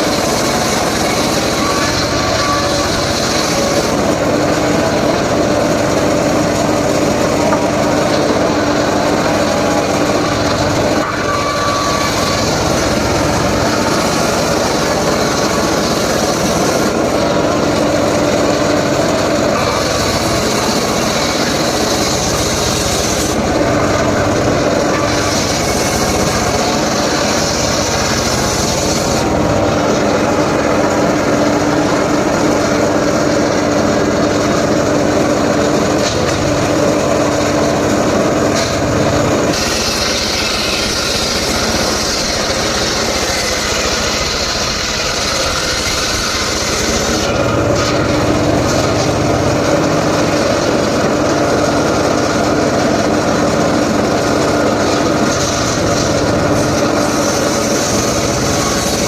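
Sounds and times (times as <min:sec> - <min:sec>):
saw cutting hiss: 0:00.0 - 0:52.0, 0:54.0 - 0:59.0
small engine saw running: 0:00.0 - 0:59.0.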